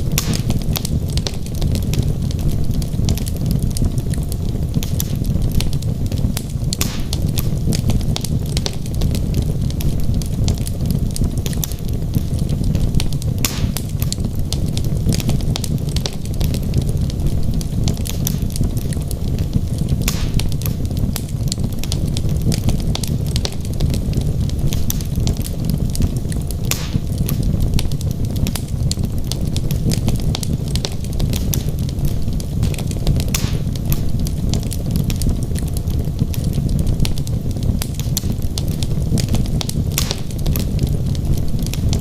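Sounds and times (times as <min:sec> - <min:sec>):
fire crackles: 0:00.0 - 0:42.0
loud fire pops: 0:00.0 - 0:42.0
rumble of fire flames: 0:00.0 - 0:42.0.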